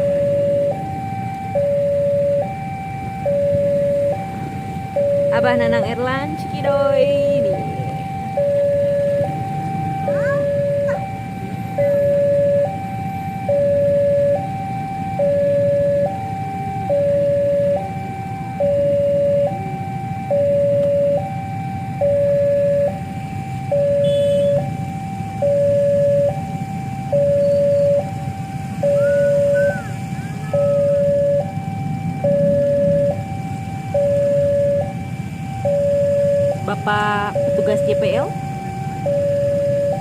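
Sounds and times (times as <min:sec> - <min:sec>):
two-tone level crossing alarm: 0:00.0 - 0:40.0.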